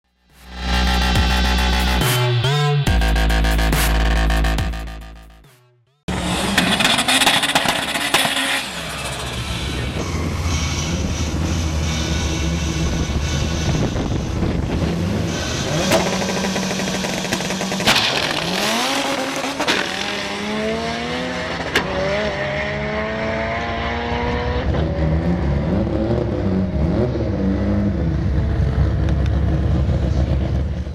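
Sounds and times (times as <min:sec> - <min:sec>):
car engine accelerating hard: 0:06.1 - 0:30.9.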